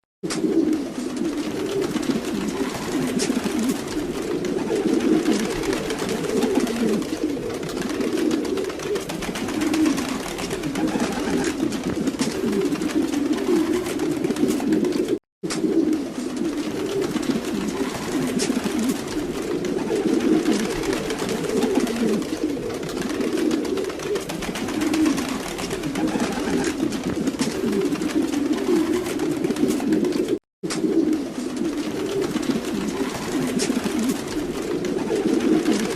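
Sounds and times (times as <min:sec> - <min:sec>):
pigeons cooing: 0:00.2 - 0:35.9.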